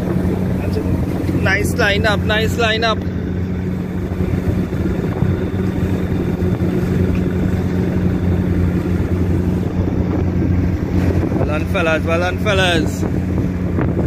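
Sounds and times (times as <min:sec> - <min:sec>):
boat engine humming: 0:00.0 - 0:14.0
rush of wind and water: 0:00.0 - 0:14.0.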